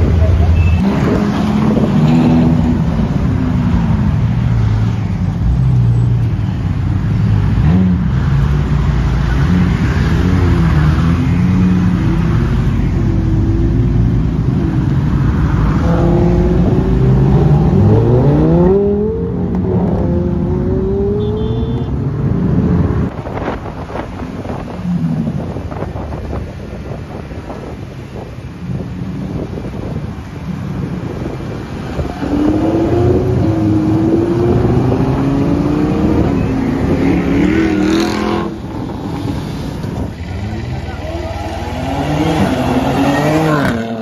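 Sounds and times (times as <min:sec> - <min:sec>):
sports car engines revving: 0:00.0 - 0:44.0.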